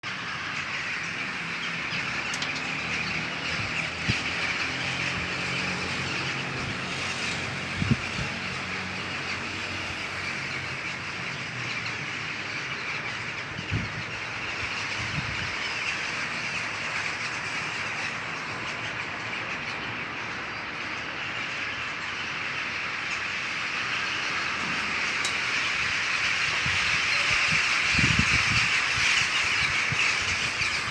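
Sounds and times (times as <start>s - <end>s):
birds chattering: 0.0s - 30.9s.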